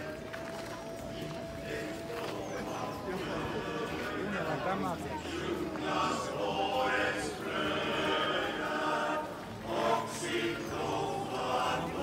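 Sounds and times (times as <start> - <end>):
choir singing: 1.2 - 12.0.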